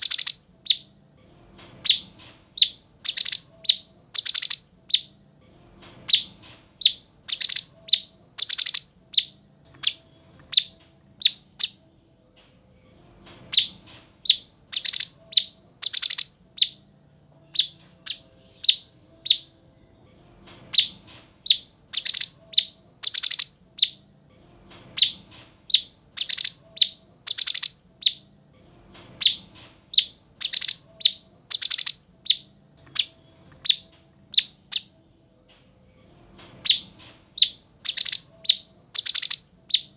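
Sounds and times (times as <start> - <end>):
songbird chirping: 0.0 - 1.0, 1.8 - 5.2, 6.1 - 11.9, 13.5 - 24.1, 25.0 - 28.3, 29.2 - 35.0, 36.6 - 39.9.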